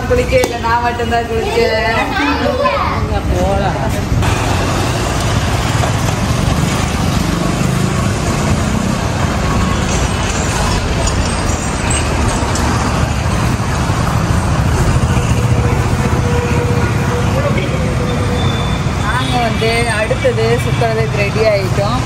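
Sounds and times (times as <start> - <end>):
road rumble: 0.0 - 22.0.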